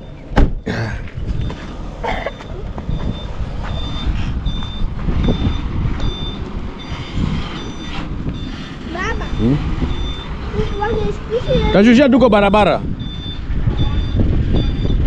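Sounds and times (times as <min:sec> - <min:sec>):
truck engine rumbling: 0:00.0 - 0:15.0
truck reversing alarm beeping: 0:00.0 - 0:15.0.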